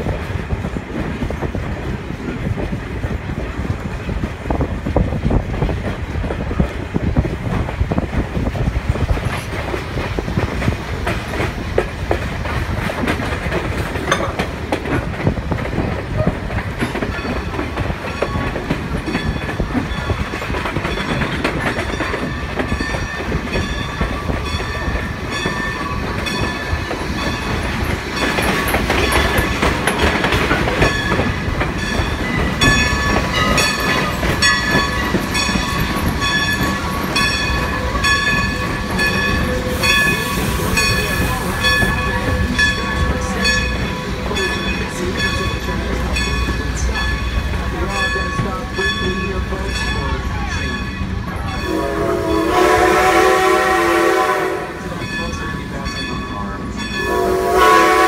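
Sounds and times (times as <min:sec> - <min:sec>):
train car rumbling: 0:00.0 - 0:58.0
wind: 0:00.0 - 0:58.0.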